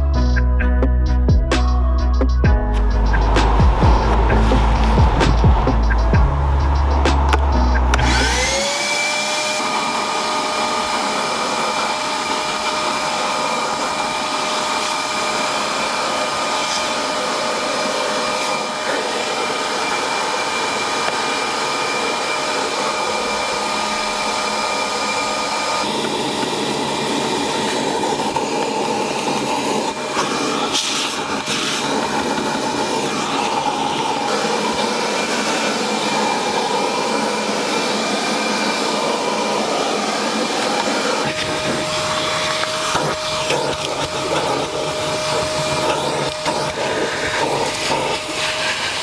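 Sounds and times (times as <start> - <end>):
vacuum cleaner motor whining: 2.5 - 49.0.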